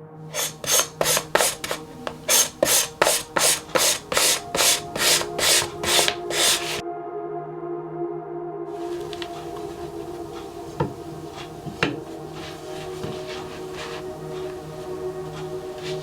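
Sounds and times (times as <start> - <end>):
knife scraping on a whetstone: 0.4 - 6.8, 8.8 - 16.0.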